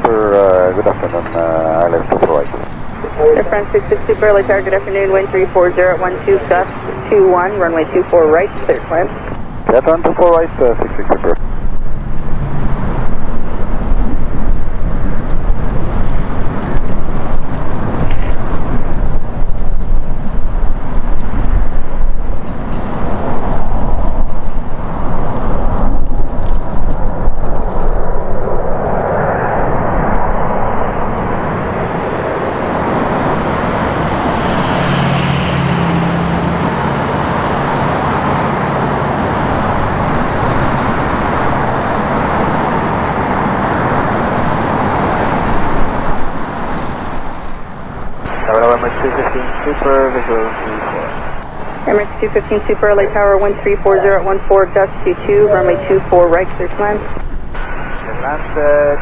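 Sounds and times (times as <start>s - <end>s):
wind buffeting microphone: 0.0s - 58.9s
high engine whine: 0.0s - 59.0s
jet engines roaring overhead: 0.0s - 59.0s.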